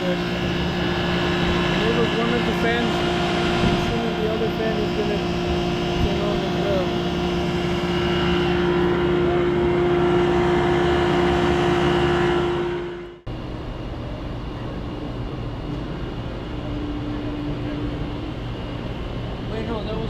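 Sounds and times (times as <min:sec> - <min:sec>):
refrigeration unit humming: 0:00.0 - 0:20.0.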